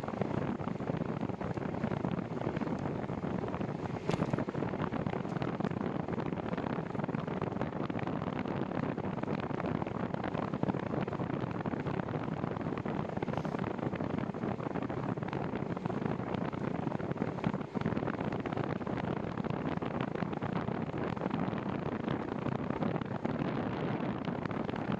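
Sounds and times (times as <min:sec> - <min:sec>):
wind rushing over microphone: 0:00.0 - 0:24.9.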